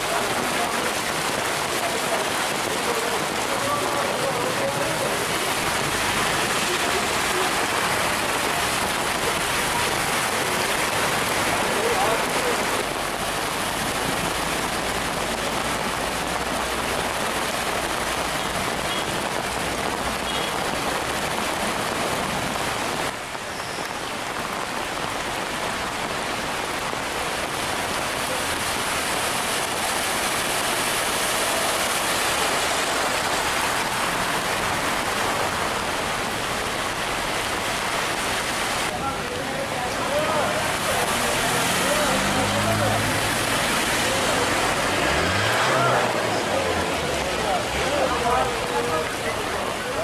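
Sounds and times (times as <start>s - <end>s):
heavy rain on flooded street: 0.0s - 50.0s.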